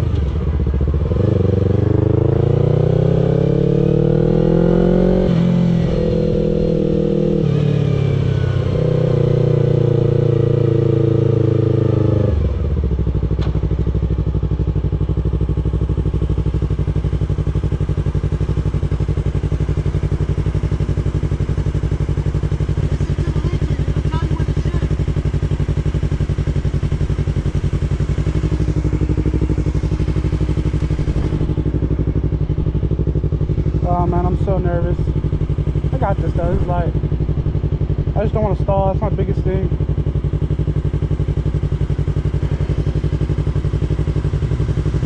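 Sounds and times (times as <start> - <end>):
motorcycle engine accelerating: 0.0 - 45.0
motorcycle engine idling: 0.0 - 45.0.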